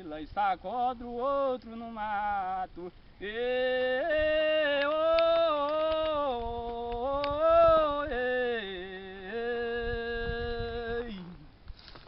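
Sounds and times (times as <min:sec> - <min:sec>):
man singing wordless herding call: 0:00.0 - 0:11.6.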